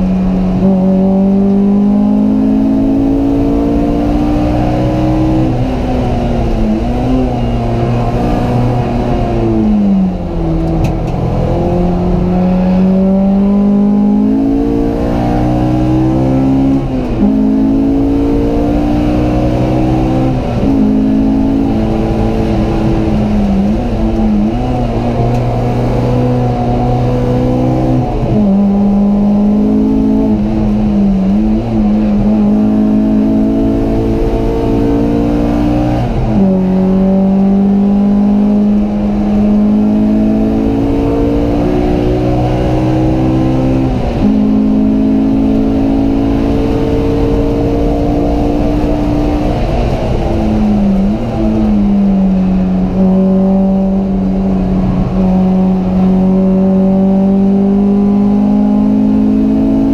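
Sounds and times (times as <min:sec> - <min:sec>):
car engine revving under load: 0:00.0 - 0:59.9.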